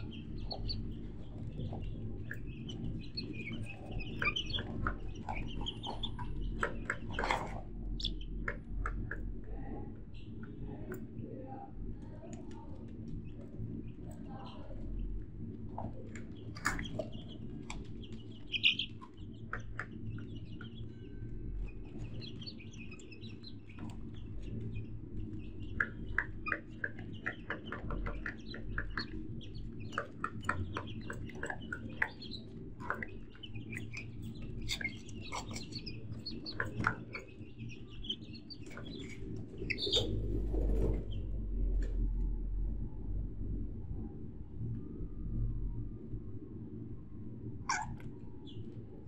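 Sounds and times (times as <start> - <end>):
birds chirping and calling: 0.0 - 42.0, 47.7 - 48.9
low steady hum: 0.0 - 49.0.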